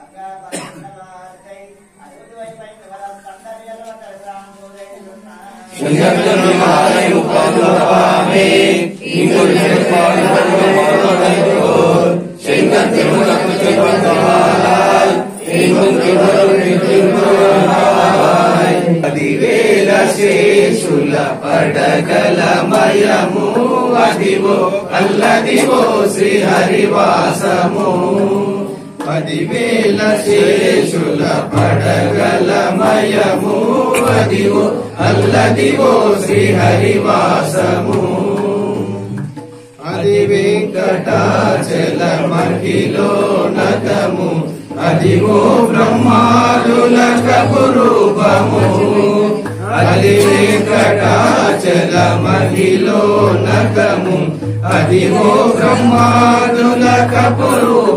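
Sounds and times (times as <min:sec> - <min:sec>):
men chanting through loudspeaker: 0:00.0 - 0:57.9
low steady beat: 0:05.8 - 0:57.9.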